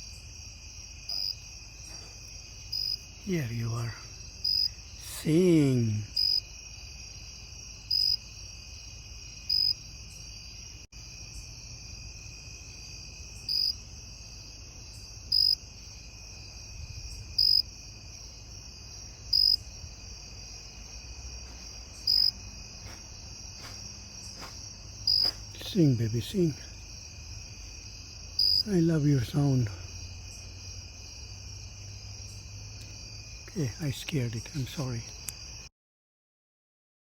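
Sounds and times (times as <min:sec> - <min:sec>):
cricket chirping: 0:00.0 - 0:35.7
high-pitched insect trill: 0:00.0 - 0:35.7.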